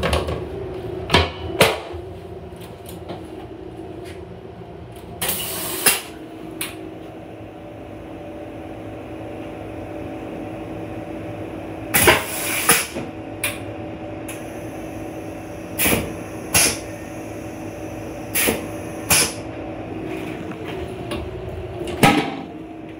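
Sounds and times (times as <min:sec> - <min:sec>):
steady hum in rail coach: 0:00.0 - 0:22.9.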